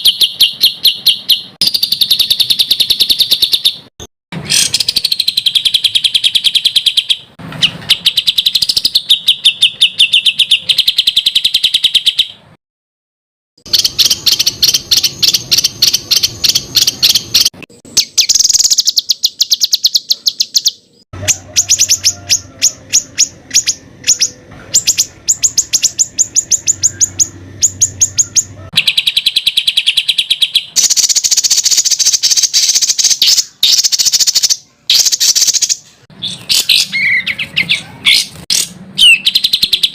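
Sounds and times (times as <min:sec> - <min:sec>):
songbird rapid sharp repeated notes: 0:00.0 - 0:12.4, 0:13.6 - 0:39.9.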